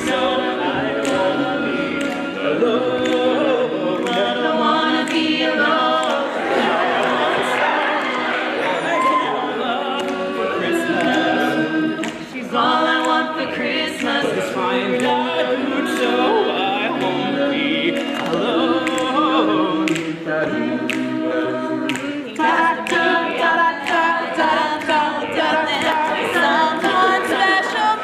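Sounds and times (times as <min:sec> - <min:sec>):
a cappella group singing: 0:00.0 - 0:28.0.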